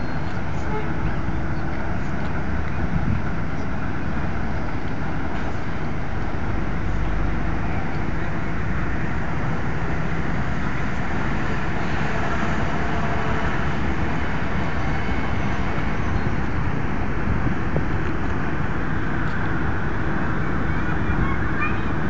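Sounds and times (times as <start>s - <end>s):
ship diesel engines rumbling: 0.0s - 22.0s.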